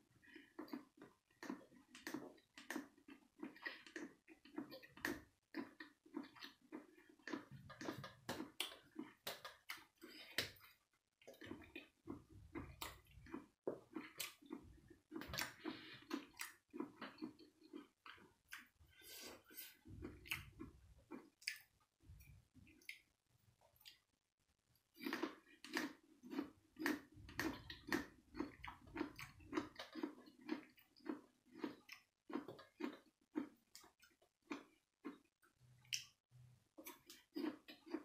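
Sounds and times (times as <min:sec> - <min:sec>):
wet chewing and lip-smacking: 0:00.2 - 0:18.8, 0:19.6 - 0:24.1, 0:25.0 - 0:38.0.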